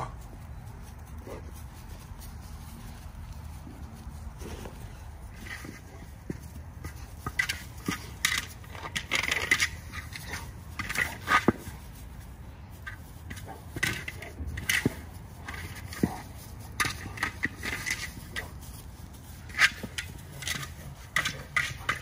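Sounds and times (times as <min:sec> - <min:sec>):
plastic ball crunching across dry grass: 0:00.0 - 0:22.0.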